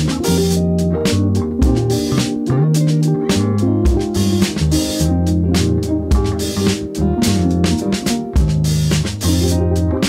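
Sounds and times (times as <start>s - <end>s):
guitar and bass music: 0.0s - 10.0s.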